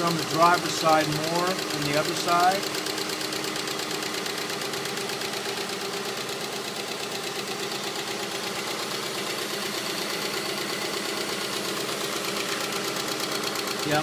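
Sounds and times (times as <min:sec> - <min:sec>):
car engine idling: 0:00.0 - 0:14.0
rapid valvetrain ticking: 0:00.0 - 0:14.0.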